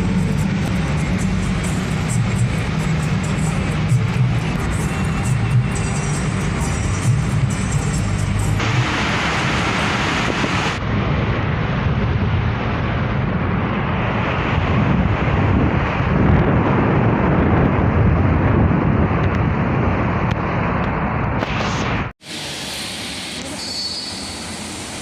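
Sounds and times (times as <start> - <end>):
vehicle road and engine rumble: 0.0 - 25.0.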